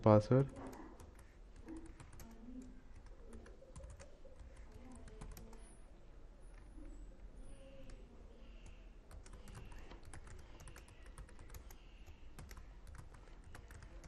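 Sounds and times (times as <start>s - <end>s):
typing on computer keyboard: 0.4s - 5.7s, 7.6s - 14.0s.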